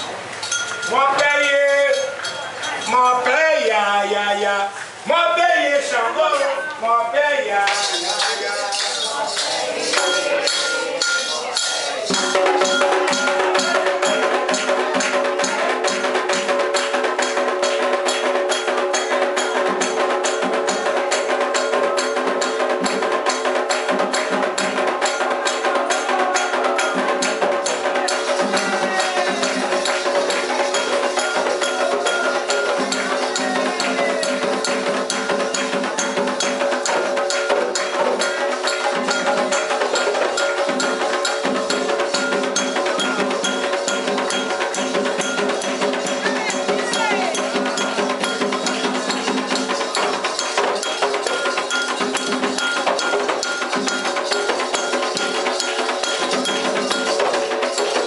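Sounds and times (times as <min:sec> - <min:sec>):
fast percussion beat: 0:00.0 - 0:58.0
held sung tones: 0:05.6 - 0:57.2.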